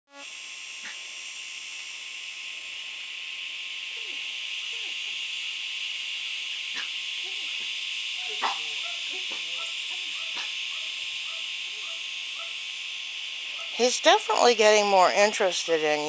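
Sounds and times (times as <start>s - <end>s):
high-pitched hiss: 0.1s - 16.0s.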